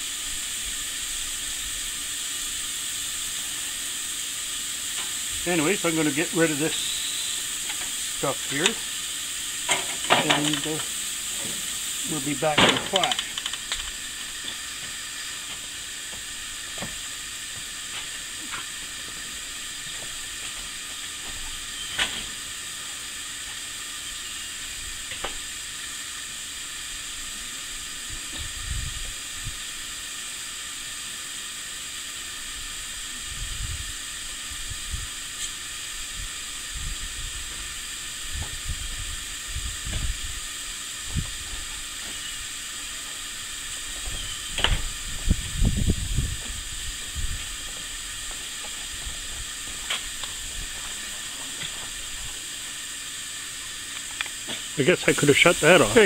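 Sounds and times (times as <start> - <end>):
burgers sizzling on a grill: 0.0 - 56.0.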